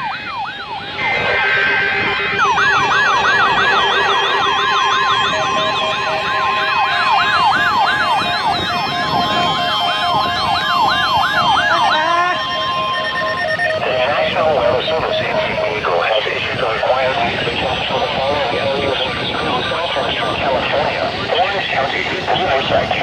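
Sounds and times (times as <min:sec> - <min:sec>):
falling siren whoop: 0:00.0 - 0:21.4
steady electronic tones: 0:00.0 - 0:23.0
pulsing beep: 0:00.4 - 0:22.4.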